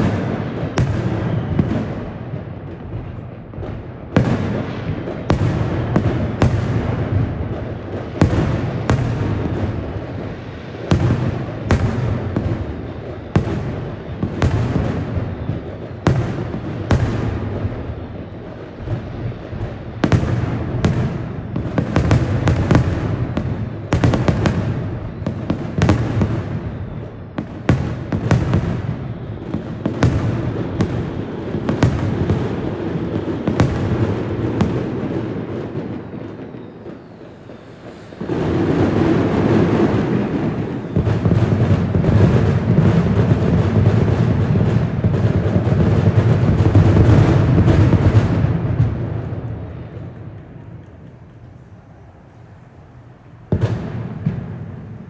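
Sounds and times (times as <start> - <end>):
deep rumble of echoing blasts: 0.0 - 55.0
distant firework bangs: 0.0 - 55.0.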